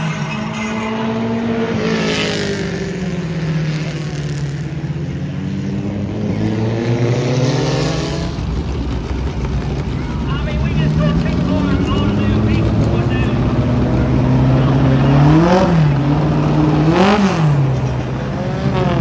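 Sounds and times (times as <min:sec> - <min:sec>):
race car engines passing by: 0:00.0 - 0:19.0.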